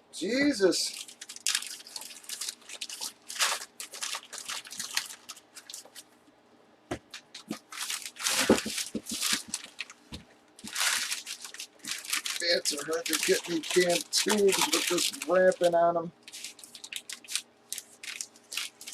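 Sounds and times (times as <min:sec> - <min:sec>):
plastic wrapping tearing and crinkling: 0:00.8 - 0:06.1, 0:07.1 - 0:18.9.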